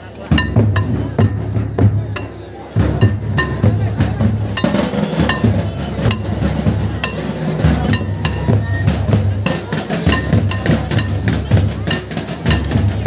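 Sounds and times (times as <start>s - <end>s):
crowd voices: 0.0s - 13.0s
folk drumming: 0.0s - 13.0s.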